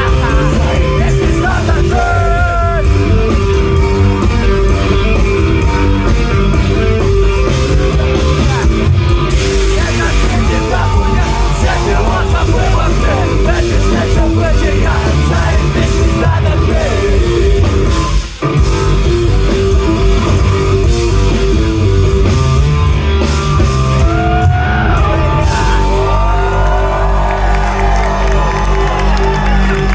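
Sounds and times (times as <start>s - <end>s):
rock band playing live: 0.0s - 29.9s.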